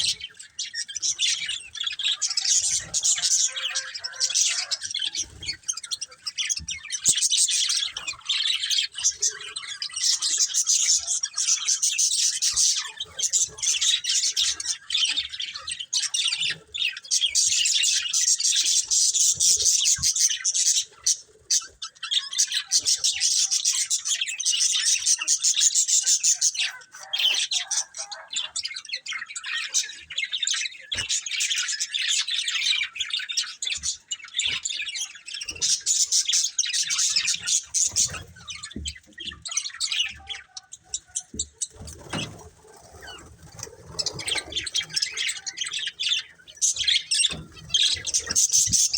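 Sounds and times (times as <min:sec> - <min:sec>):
budgerigars chattering and chirping: 0:00.0 - 0:48.9.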